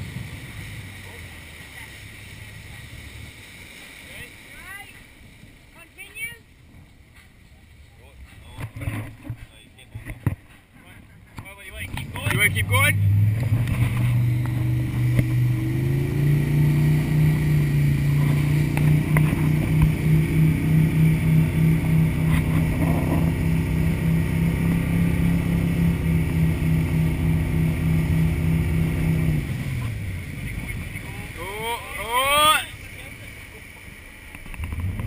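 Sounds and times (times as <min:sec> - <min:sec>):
speedboat engine running: 0:00.0 - 0:35.0
water rushing and spraying: 0:00.0 - 0:35.0.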